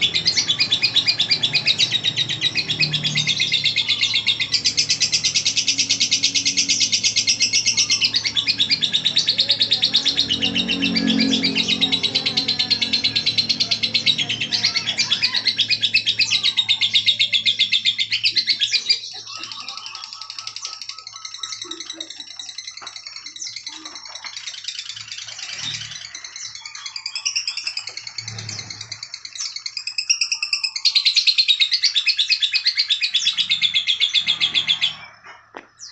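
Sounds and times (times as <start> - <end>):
bird chattering trill: 0.0 - 35.9.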